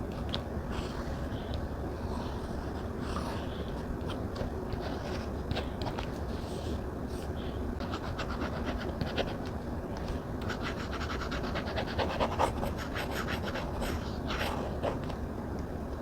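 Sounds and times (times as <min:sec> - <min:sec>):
low background hum: 0:00.0 - 0:16.0
stylus scratching and tapping on screen: 0:00.1 - 0:06.8, 0:07.8 - 0:15.2.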